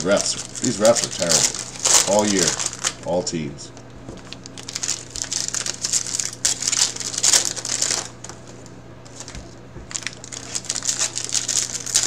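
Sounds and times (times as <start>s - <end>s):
foil wrappers crinkling: 0.0s - 12.0s
steady low hum: 0.0s - 12.0s
cards being handled: 0.4s - 3.0s, 4.0s - 12.0s.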